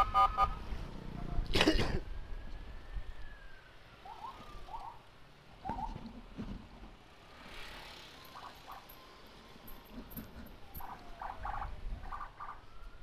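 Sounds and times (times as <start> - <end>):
faint siren wail: 0.0 - 6.3, 7.1 - 13.0.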